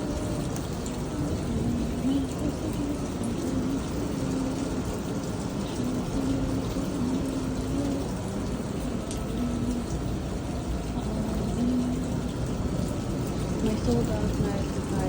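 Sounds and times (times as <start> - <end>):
low wavering hum: 0.0 - 15.0
rain falling: 0.0 - 15.0.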